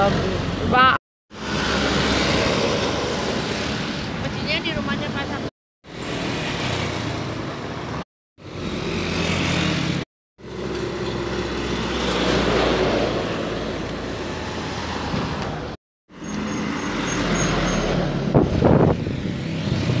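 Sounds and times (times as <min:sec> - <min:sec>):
trucks driving past: 0:00.0 - 0:20.0.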